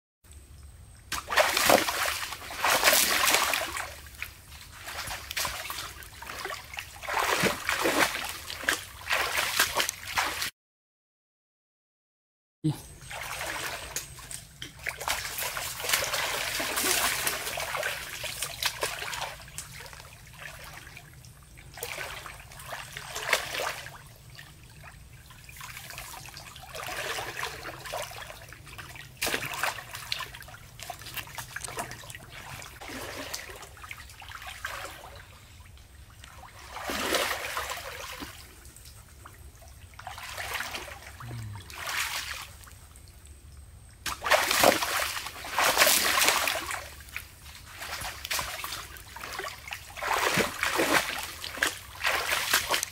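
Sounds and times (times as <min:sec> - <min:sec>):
water splashing and sloshing: 0:00.3 - 0:10.5, 0:12.7 - 0:52.9.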